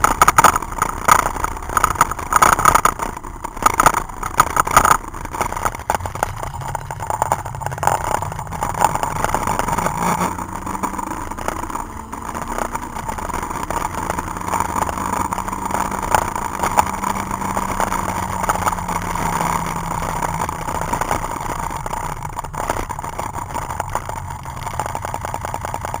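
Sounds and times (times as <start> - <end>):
car engine under hard driving: 0.0 - 26.0
tyre and road noise: 0.0 - 26.0.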